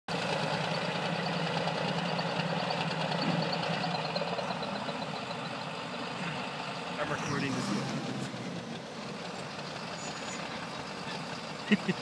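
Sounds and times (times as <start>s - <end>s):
diesel bulldozer engines idling: 0.1s - 12.0s.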